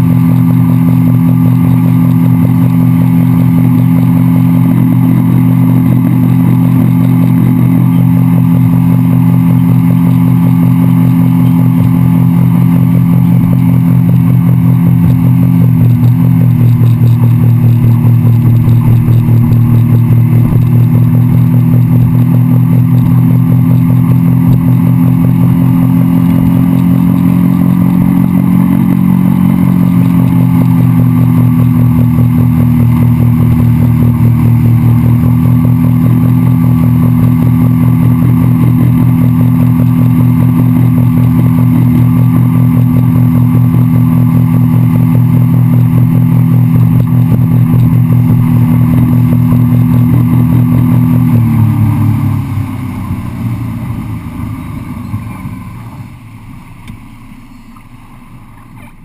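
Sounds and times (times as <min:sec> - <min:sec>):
outboard motor running: 0:00.0 - 0:59.0
rush of boat wake: 0:00.0 - 0:59.0.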